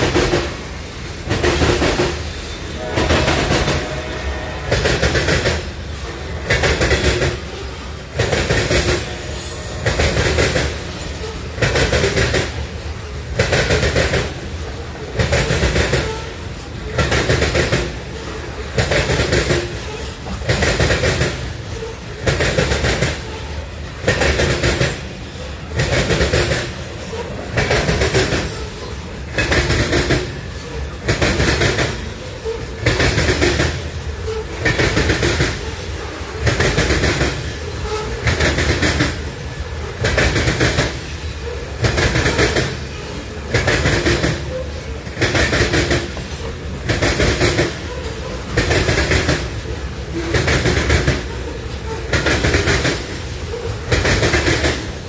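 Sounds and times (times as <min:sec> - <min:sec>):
freight train rumble: 0:00.0 - 0:55.0
train wheel clatter: 0:00.0 - 0:55.0.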